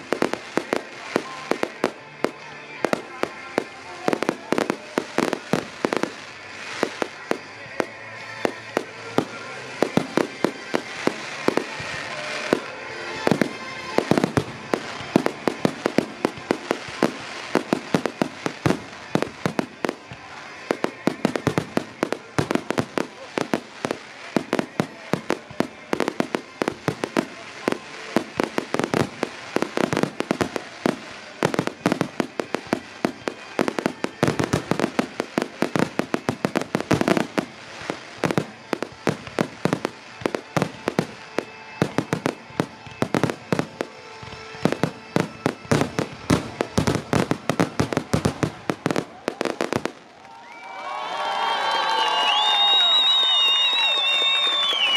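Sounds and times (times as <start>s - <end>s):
fireworks bursting: 0.0s - 50.7s, 51.3s - 54.9s.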